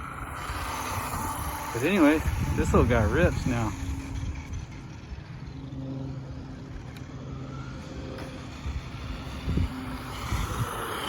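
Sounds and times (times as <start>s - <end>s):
toy car electric motor humming: 0.0s - 11.0s.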